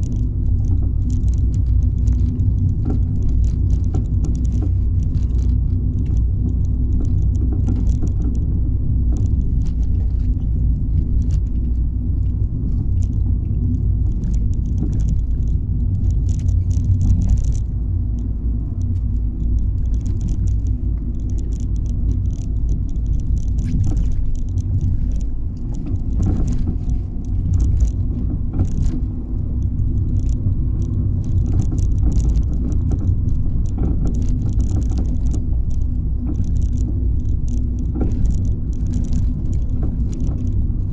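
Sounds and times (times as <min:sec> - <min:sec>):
car driving low rumble: 0:00.0 - 0:40.9
knocks and clunks under car: 0:00.0 - 0:40.9.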